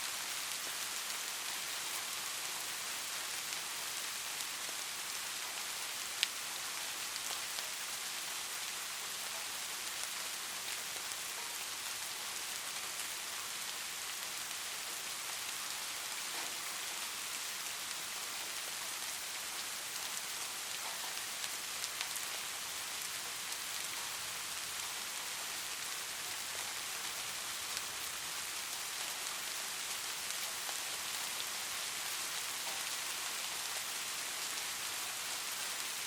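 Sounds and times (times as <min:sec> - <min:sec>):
light rain: 0:00.0 - 0:36.0.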